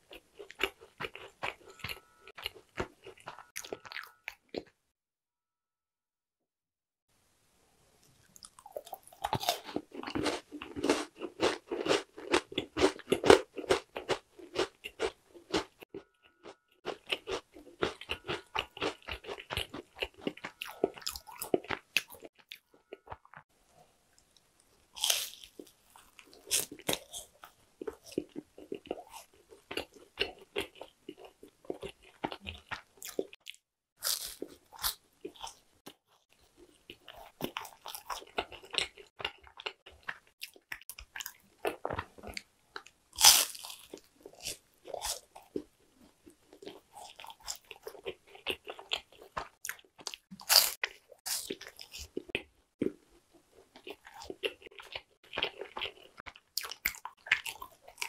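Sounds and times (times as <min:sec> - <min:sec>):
crunchy chewing: 0:00.0 - 0:04.8, 0:08.0 - 0:23.4, 0:24.1 - 0:58.0.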